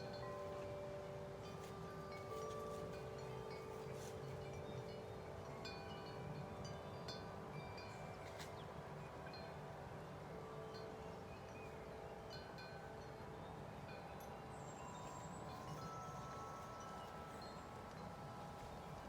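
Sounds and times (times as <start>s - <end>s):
wind chimes ringing: 0.0s - 19.0s.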